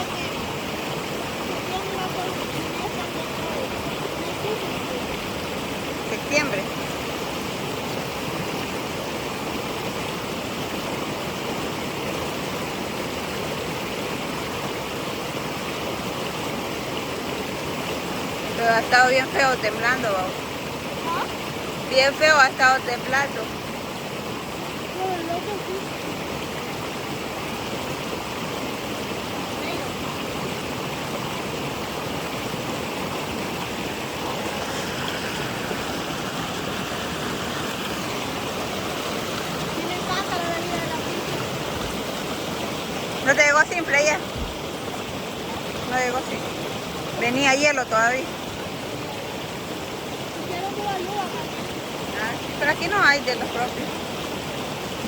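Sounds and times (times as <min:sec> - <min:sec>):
small waterfall rushing: 0:00.0 - 0:55.0.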